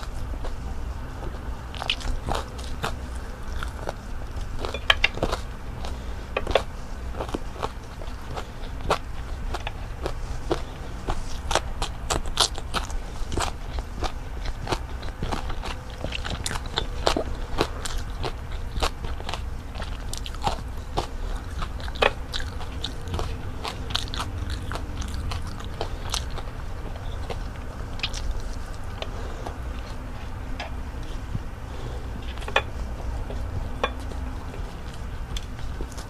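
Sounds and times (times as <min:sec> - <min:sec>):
crunchy chewing: 0:00.0 - 0:36.0
low hum: 0:00.0 - 0:36.0.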